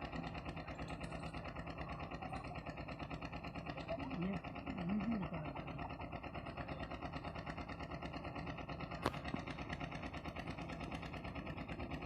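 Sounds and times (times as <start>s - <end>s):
motor running with fast pulse: 0.0s - 12.0s.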